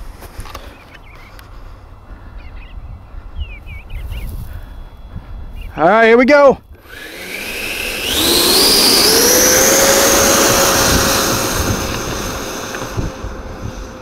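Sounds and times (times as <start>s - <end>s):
model airplane motors whining: 0.4s - 14.0s.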